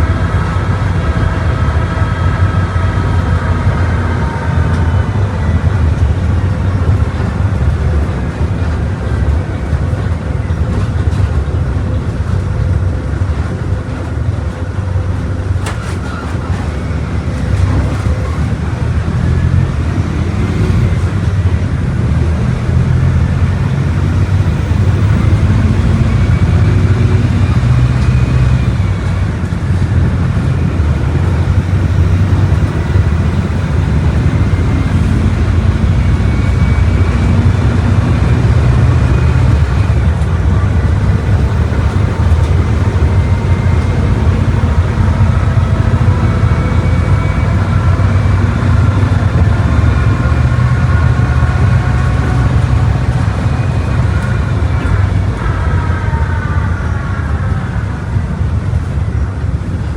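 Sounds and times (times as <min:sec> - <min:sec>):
bus diesel engine drone: 0:00.0 - 0:59.9.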